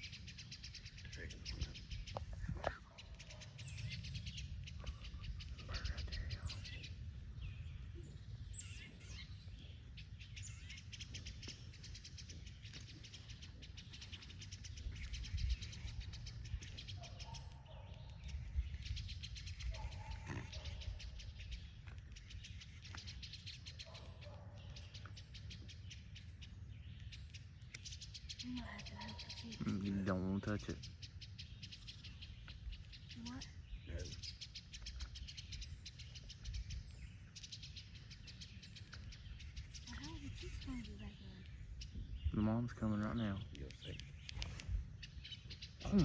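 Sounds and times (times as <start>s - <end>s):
short lower bird calls: 0.0s - 26.2s, 27.8s - 46.0s
songbirds chipping in alarm: 0.0s - 46.0s.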